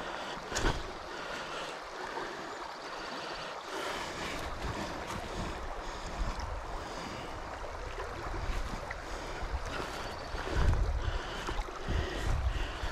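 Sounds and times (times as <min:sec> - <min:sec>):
river current rushing: 0:00.0 - 0:12.9.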